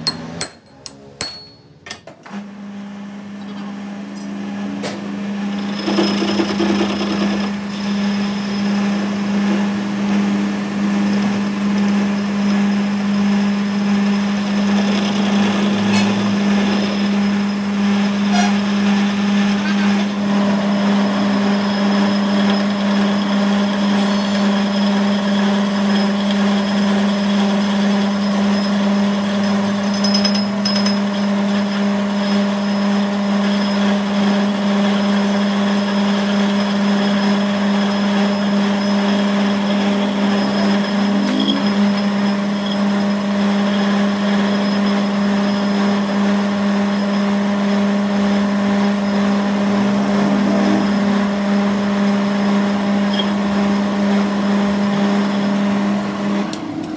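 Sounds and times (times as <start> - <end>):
low machine hum: 0.0 - 27.4, 32.7 - 56.9.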